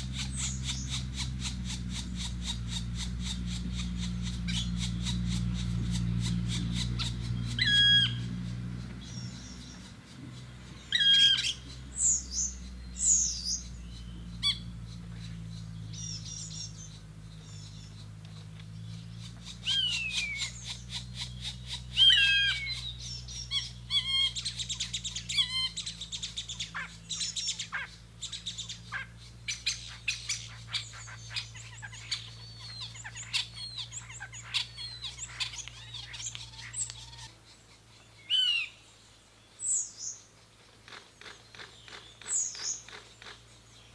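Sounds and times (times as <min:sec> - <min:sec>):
birds calling: 0:00.0 - 0:43.9
steady low hum: 0:00.0 - 0:43.9.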